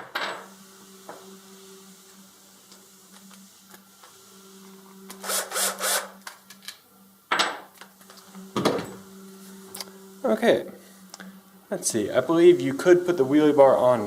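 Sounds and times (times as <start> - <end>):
steady low hum: 0.3 - 14.0.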